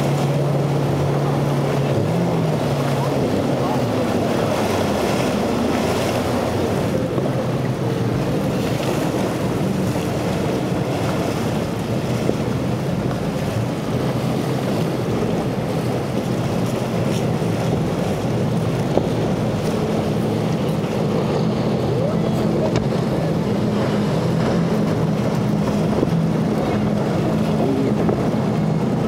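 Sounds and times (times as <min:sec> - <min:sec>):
outboard boat engines: 0:00.0 - 0:29.0
waves and spray from hulls: 0:00.0 - 0:29.0
wind on microphone: 0:00.0 - 0:29.0.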